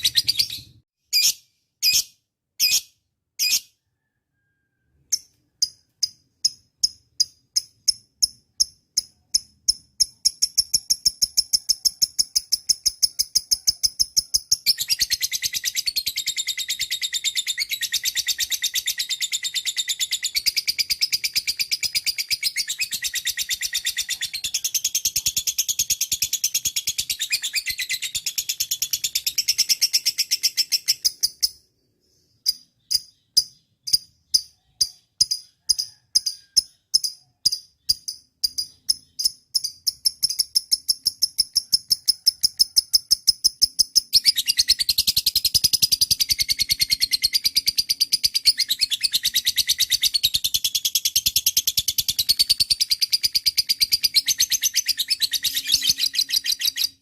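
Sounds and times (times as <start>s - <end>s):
lovebird chattering and trilling: 0.0s - 3.9s, 5.1s - 57.0s.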